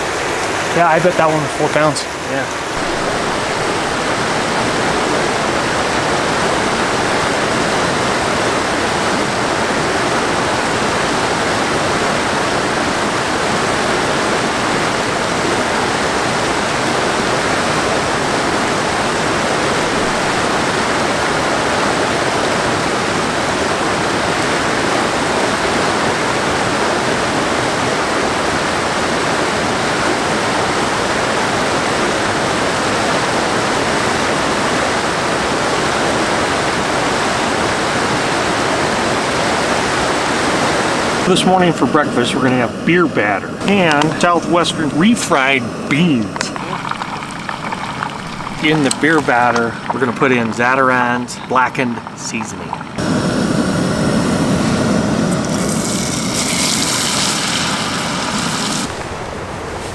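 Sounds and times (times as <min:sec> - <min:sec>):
stream rushing over rocks: 0:00.0 - 0:53.2, 0:54.8 - 0:59.9.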